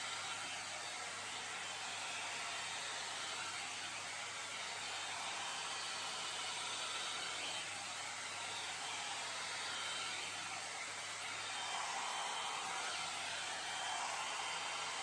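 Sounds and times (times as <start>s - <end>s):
hair dryer brush blowing: 0.0s - 15.0s.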